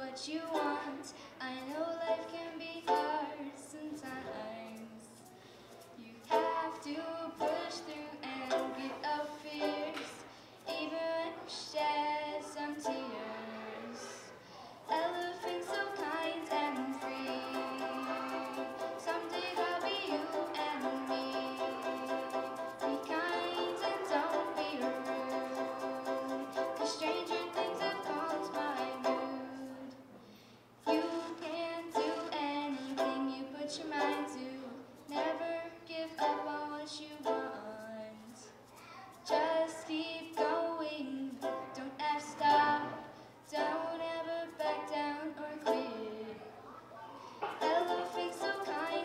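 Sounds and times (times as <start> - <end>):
strummed ukulele: 0.0 - 5.2, 6.2 - 13.5, 14.8 - 29.9, 30.8 - 38.4, 39.2 - 46.5, 47.4 - 49.0
young female voice singing: 0.0 - 5.3, 6.0 - 14.2, 14.8 - 30.1, 30.8 - 38.6, 39.2 - 46.7, 47.6 - 49.0.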